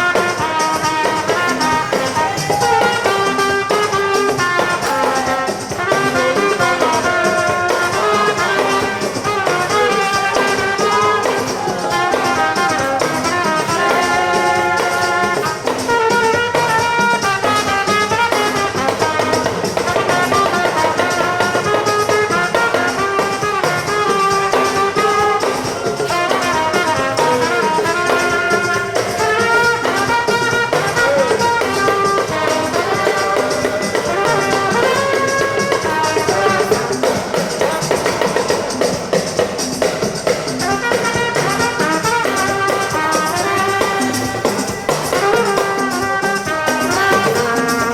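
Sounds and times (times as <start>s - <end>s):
brass horns playing melody: 0.0s - 47.9s.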